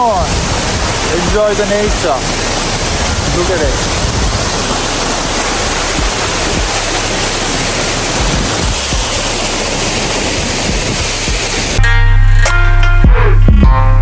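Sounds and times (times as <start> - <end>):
waterfall roaring: 0.0 - 11.8.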